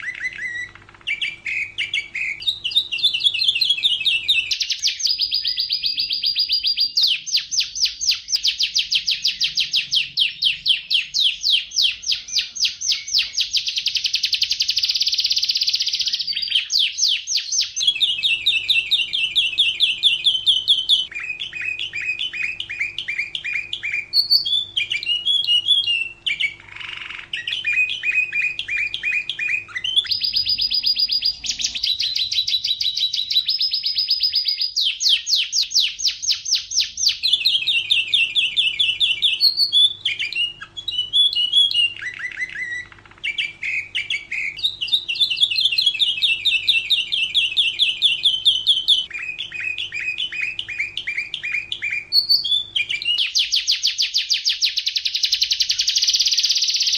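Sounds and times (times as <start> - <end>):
canary singing rapid trills: 0.0 - 56.9.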